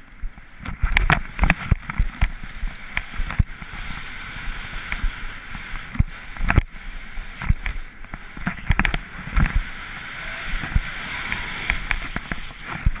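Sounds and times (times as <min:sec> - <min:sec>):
skis hissing and scraping on snow: 0:01.6 - 0:13.0.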